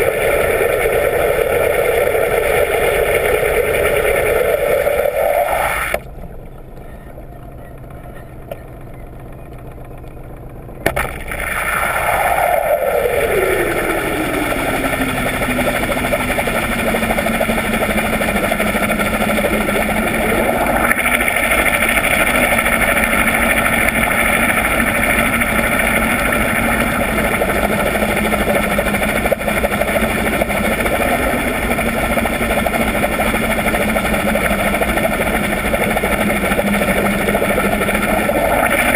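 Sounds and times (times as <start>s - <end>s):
underwater boat engine and propeller hum: 0.0s - 38.9s.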